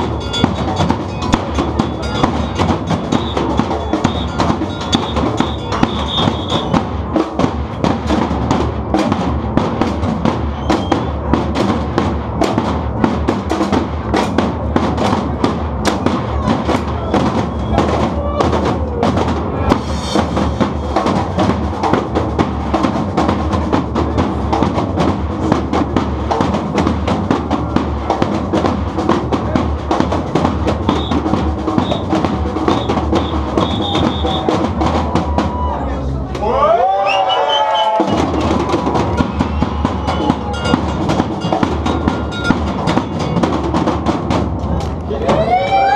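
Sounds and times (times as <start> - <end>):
drum ensemble playing: 0.0 - 45.9.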